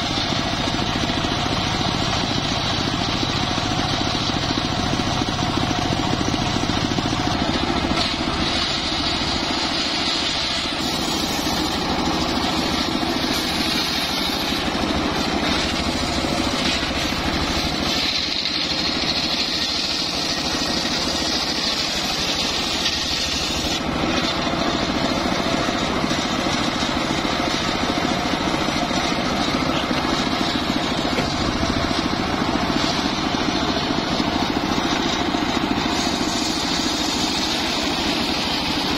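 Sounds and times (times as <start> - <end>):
saw blade whining through log: 0.0 - 38.9
saw engine running: 0.0 - 38.9.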